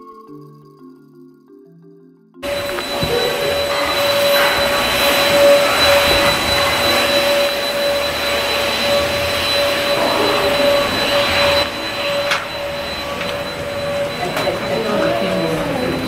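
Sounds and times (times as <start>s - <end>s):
motor whirring with high whine: 2.4s - 16.0s.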